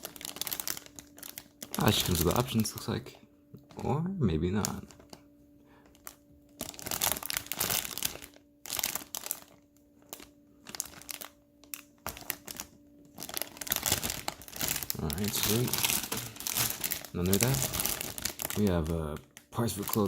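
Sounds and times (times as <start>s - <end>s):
plastic bags crinkling: 0.0s - 3.0s, 4.5s - 5.2s, 5.8s - 20.0s.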